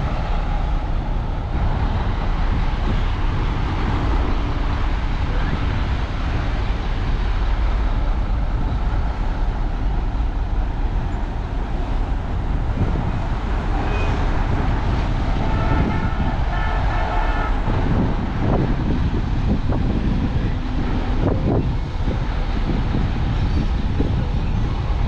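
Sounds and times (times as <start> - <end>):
diesel machinery engine: 0.0 - 25.0.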